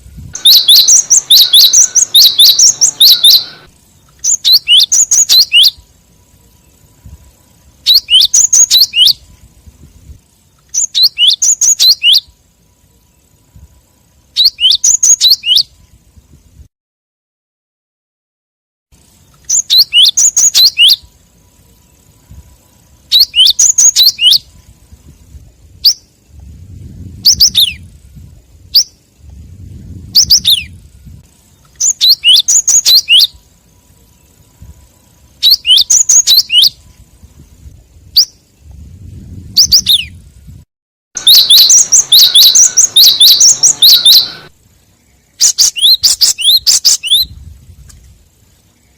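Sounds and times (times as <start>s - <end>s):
high bird chirps: 0.0s - 16.4s, 19.0s - 38.9s, 39.5s - 40.2s, 41.2s - 47.4s.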